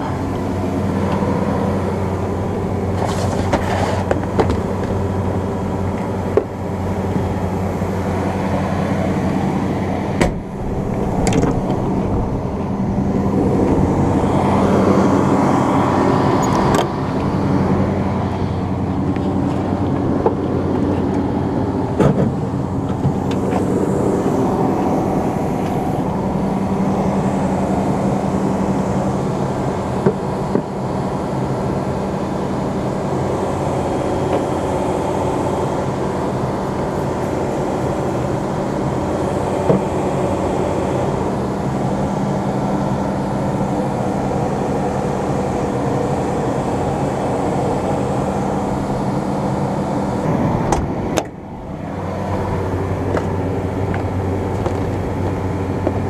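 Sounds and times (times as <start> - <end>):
combine harvester engine hum: 0.0 - 56.0.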